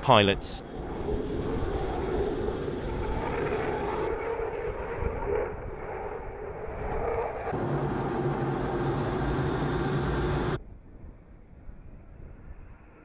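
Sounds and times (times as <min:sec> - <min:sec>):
jet engine rushing: 0:00.0 - 0:10.6.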